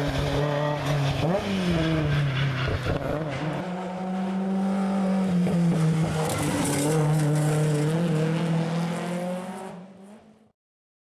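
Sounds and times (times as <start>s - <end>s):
rally car engine at high revs: 0.0s - 10.5s.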